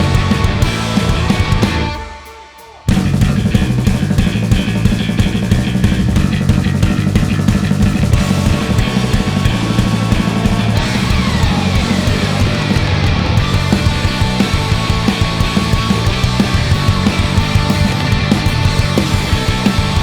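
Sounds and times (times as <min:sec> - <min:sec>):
rock band playing live: 0:00.0 - 0:20.0.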